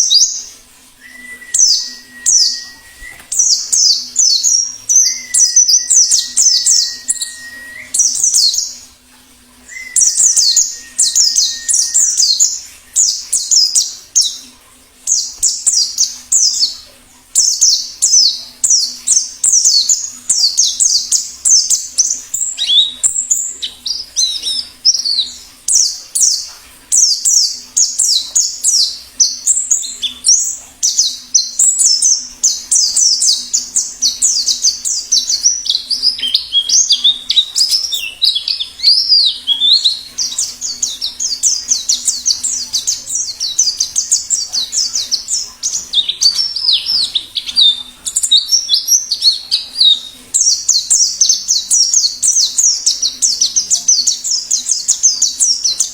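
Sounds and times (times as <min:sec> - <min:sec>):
bird twittering song: 0:00.0 - 0:55.9.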